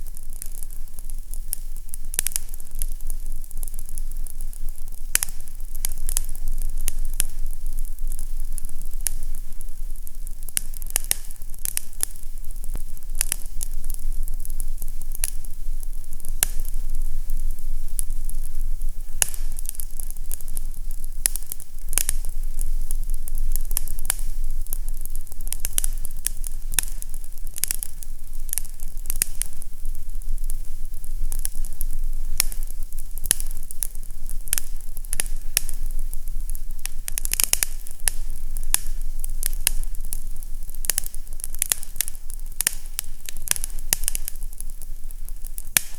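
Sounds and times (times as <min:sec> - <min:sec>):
fire crackling and popping: 0:00.0 - 0:45.9
steady low hum: 0:00.0 - 0:45.9.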